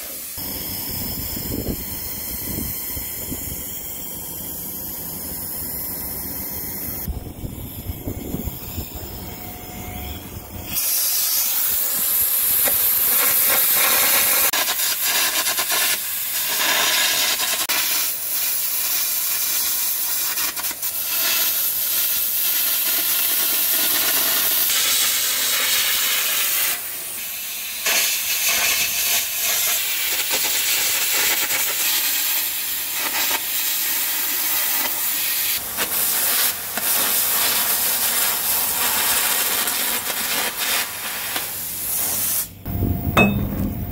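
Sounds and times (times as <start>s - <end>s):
arc and air jet hissing: 0.0s - 9.3s, 10.7s - 42.7s.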